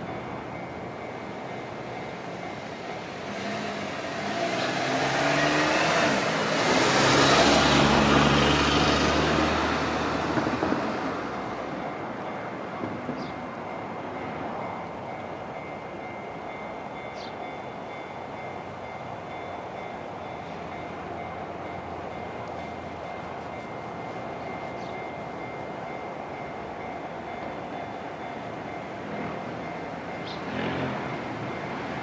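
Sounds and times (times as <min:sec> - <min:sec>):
crossing warning bell ringing: 0:00.0 - 0:08.8, 0:11.1 - 0:32.0
electric train passing: 0:00.0 - 0:32.0.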